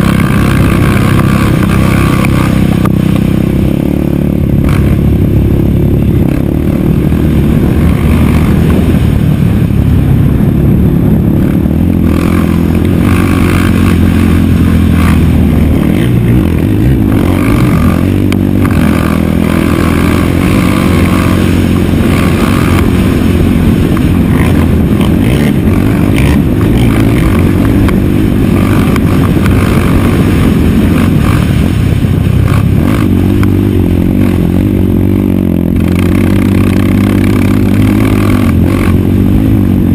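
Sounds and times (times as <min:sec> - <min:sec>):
quad engine running hard: 0:00.0 - 0:39.9.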